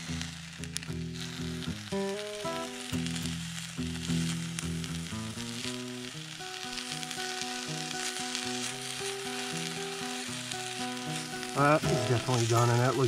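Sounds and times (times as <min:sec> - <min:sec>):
food sizzling in a pan: 0:00.0 - 0:13.0
soft instrumental music: 0:00.1 - 0:13.0.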